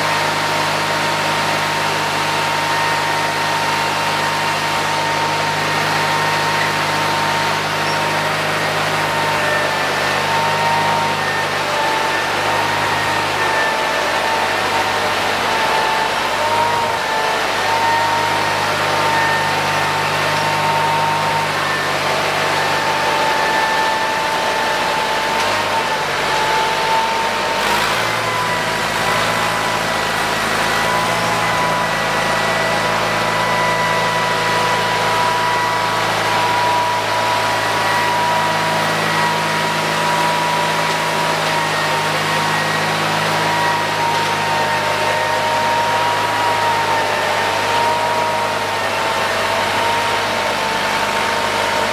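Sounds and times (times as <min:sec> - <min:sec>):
garden tractor engine running: 0:00.0 - 0:51.9.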